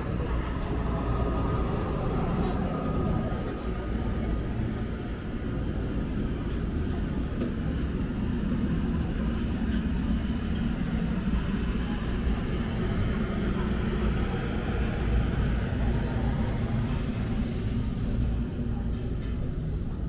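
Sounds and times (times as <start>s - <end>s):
busy street ambience: 0.0s - 20.0s.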